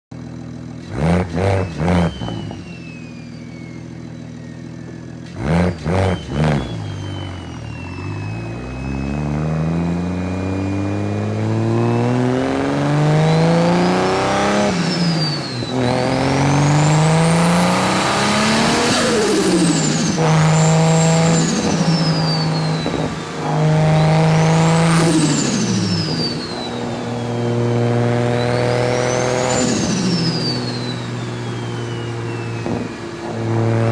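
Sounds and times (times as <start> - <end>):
high engine whine: 0.1 - 33.9
car engine revving: 0.2 - 33.9.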